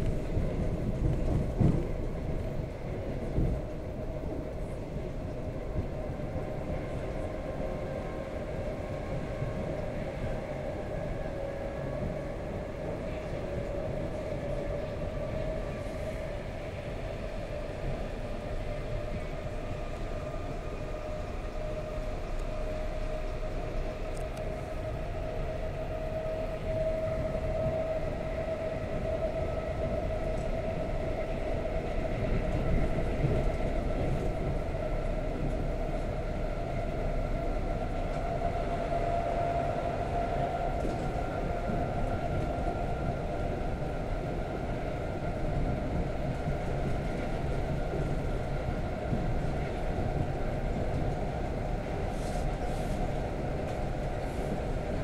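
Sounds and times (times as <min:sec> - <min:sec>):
steady train whine: 0:00.0 - 0:55.0
train wheels rumbling on rails: 0:00.0 - 0:55.0.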